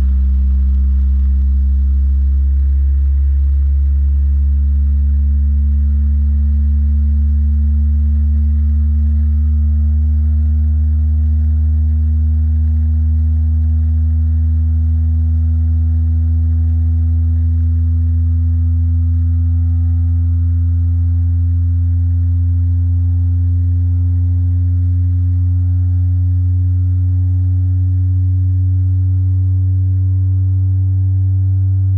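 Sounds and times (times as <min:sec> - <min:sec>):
deep bass test tone rising: 0:00.0 - 0:31.9.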